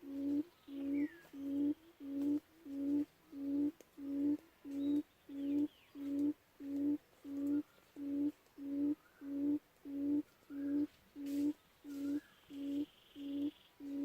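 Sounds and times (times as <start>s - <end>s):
low hooting quail call: 0.0s - 14.0s
small birds chirping: 0.0s - 14.0s.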